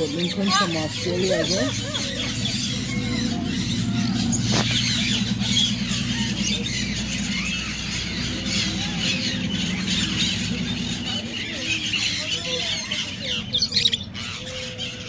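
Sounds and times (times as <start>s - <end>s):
parrots squawking and squealing: 0.0s - 15.0s
steady low hum: 0.0s - 15.0s.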